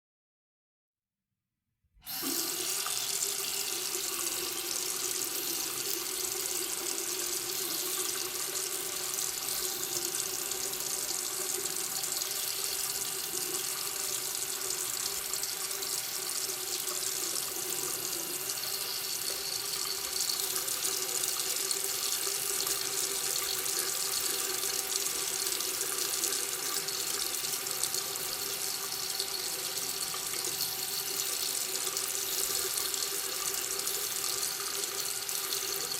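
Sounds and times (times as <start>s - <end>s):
water tap running into sink: 2.0s - 35.9s.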